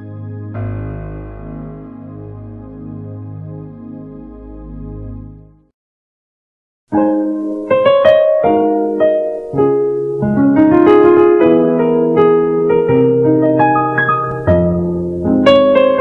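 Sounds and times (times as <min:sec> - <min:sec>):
piano music: 0:00.0 - 0:05.6, 0:06.9 - 0:16.0.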